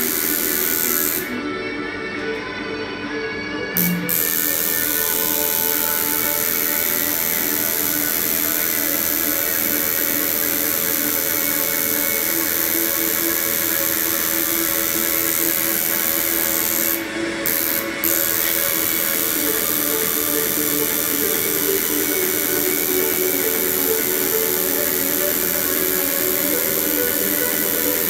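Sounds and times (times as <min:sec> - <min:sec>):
tattoo machine buzzing: 0:00.0 - 0:01.4, 0:03.8 - 0:28.0.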